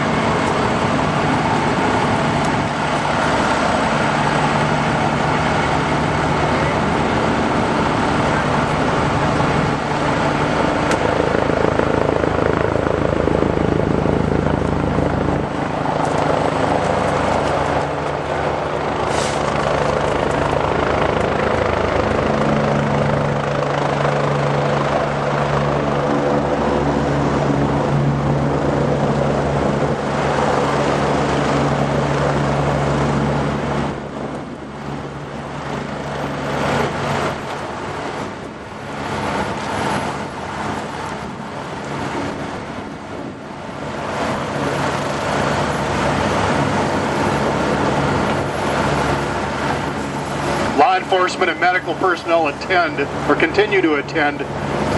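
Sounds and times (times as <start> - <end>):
helicopter rotor and engine drone: 0.0 - 54.9.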